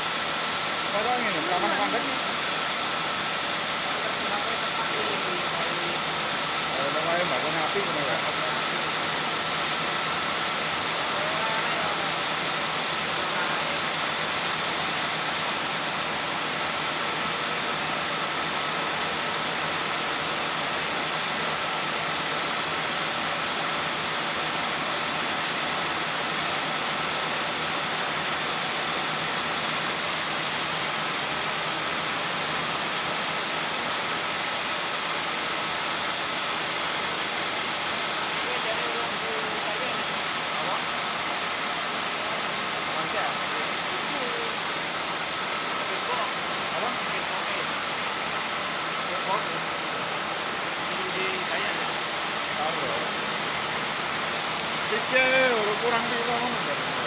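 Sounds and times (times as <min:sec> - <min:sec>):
machine running with mechanical rush: 0:00.0 - 0:57.0.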